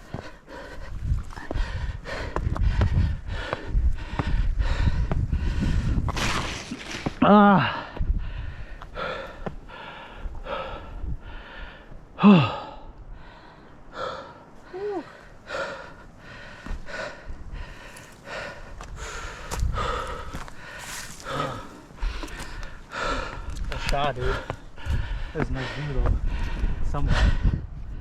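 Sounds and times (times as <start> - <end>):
person panting hard: 0.0 - 6.1, 7.6 - 28.0.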